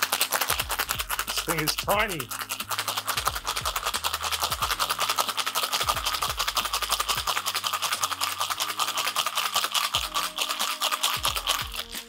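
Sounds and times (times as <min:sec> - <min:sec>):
ice rattling in cocktail shaker: 0:00.0 - 0:12.0.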